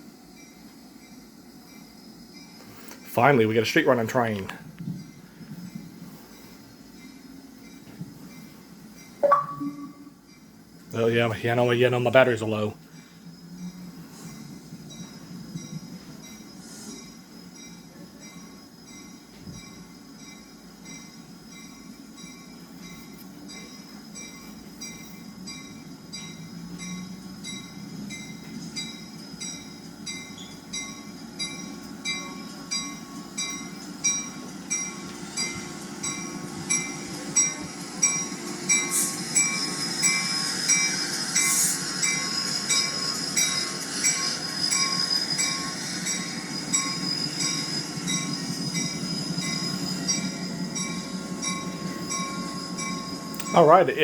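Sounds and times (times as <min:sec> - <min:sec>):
freight train rumble: 0:00.0 - 0:54.0
railroad crossing bell ringing: 0:00.0 - 0:54.0.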